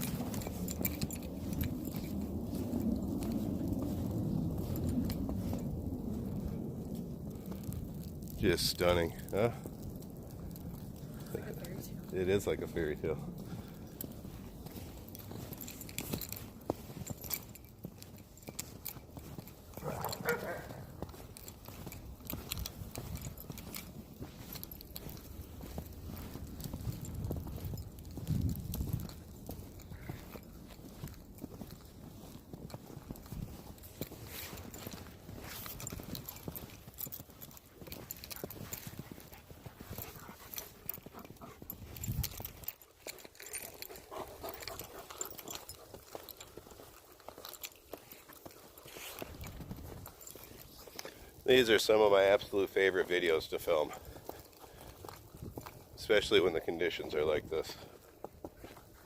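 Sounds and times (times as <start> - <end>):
footsteps crunching through snow: 0.0 - 59.0.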